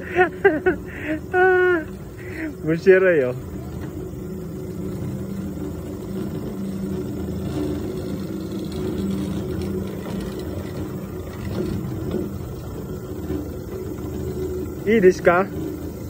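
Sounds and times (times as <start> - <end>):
chairlift cable hum and rumble: 0.0 - 16.0.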